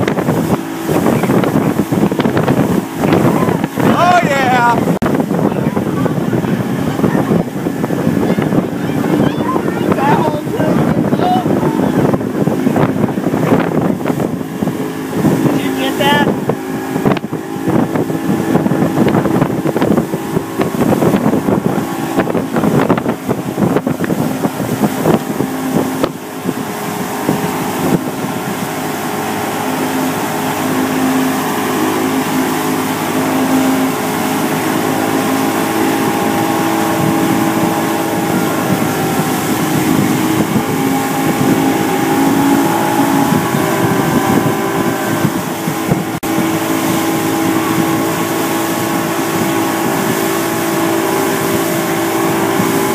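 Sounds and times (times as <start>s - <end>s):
outboard motor running: 0.0s - 52.9s
wind buffeting microphone: 0.0s - 52.9s.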